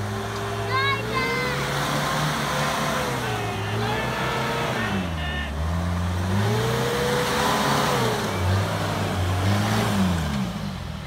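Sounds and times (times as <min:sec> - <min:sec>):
diesel engine revving under load: 0:00.0 - 0:11.0.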